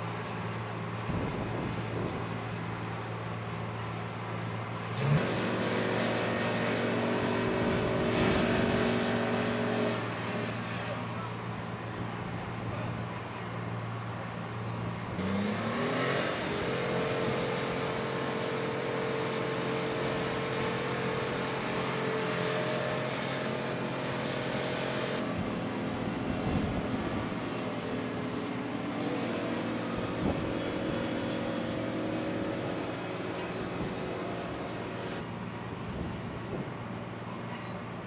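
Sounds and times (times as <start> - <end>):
machinery noise: 0.0 - 38.0.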